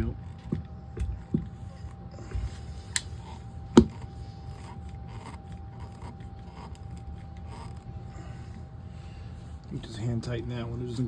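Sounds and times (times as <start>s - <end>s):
faint steady whine: 0.0s - 11.0s
threads scraping and rubbing: 1.1s - 11.0s.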